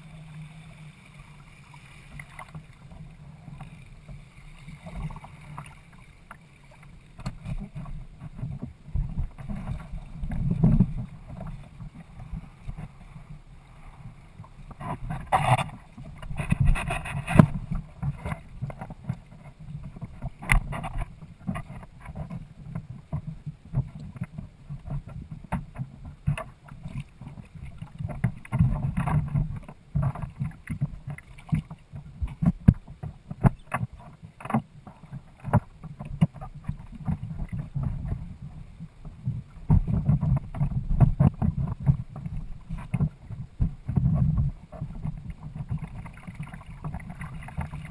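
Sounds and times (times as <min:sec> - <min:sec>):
water slapping against a hull: 0:00.0 - 0:47.9
wind buffeting the microphone: 0:07.4 - 0:13.0, 0:14.4 - 0:34.6, 0:35.2 - 0:47.9.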